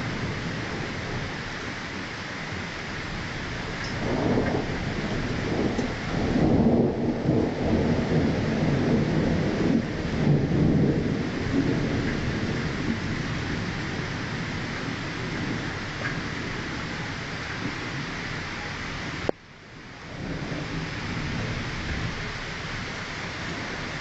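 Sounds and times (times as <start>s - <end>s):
thunder rolling: 0.0s - 19.3s, 20.1s - 24.0s
steady rain: 0.0s - 24.0s.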